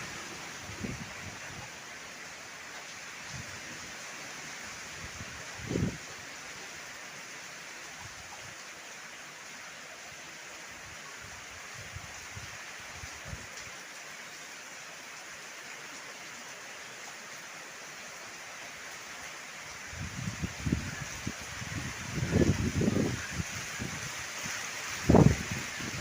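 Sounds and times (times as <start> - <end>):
heavy rain falling: 0.0 - 26.0
low gusts of wind: 0.0 - 26.0.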